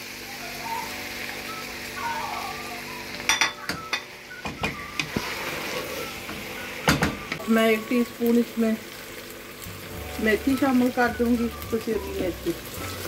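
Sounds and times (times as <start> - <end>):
curry sizzling in a pot: 0.0 - 13.0.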